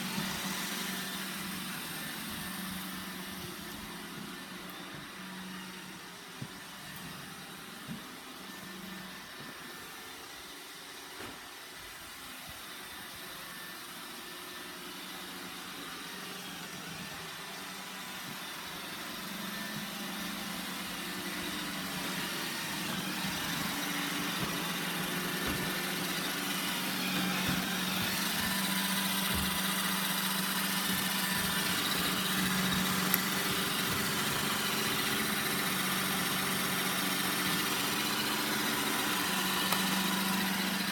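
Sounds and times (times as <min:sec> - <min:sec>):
robot vacuum motor hum: 0:00.0 - 0:40.9.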